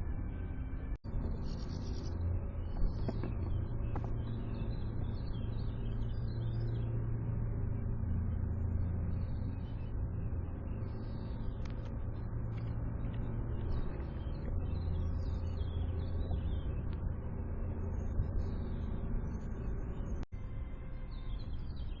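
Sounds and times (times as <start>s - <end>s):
steady low rumble: 0.0s - 22.0s
birds chirping: 0.3s - 22.0s.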